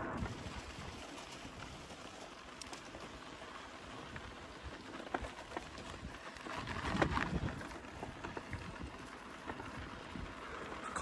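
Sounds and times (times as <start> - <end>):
bicycle tyres crunching on dirt: 0.0 - 11.0
bike and bags rattling: 0.0 - 11.0.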